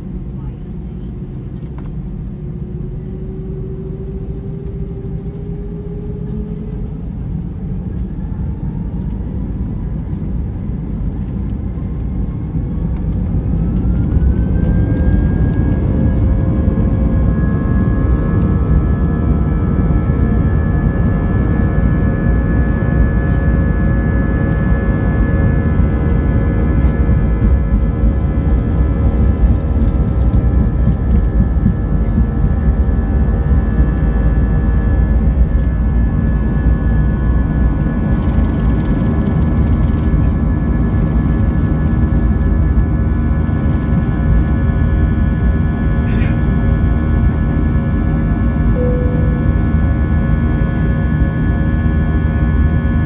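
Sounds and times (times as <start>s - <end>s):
jet engines roaring from cabin: 0.0s - 53.0s
engine whine rising in pitch: 1.6s - 53.0s.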